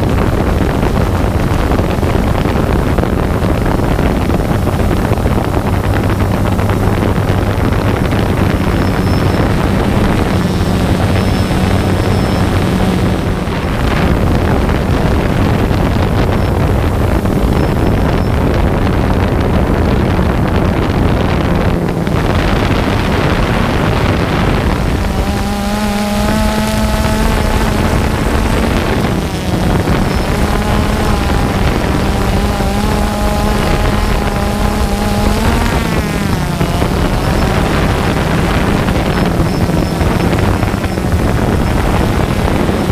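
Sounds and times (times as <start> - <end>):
drone propellers humming: 0.0 - 42.9
wind noise: 0.0 - 42.9.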